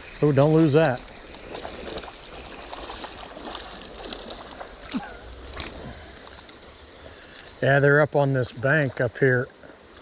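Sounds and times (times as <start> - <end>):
small clicks and splashes: 0.0 - 6.6, 8.2 - 10.0
creek water trickling: 0.0 - 10.0.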